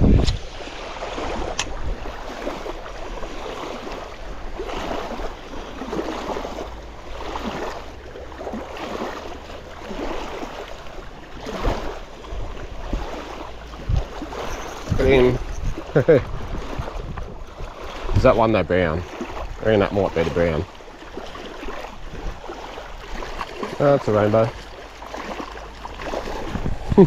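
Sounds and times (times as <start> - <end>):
waves lapping at shore: 0.0 - 27.0
wind rumble on microphone: 0.0 - 27.0.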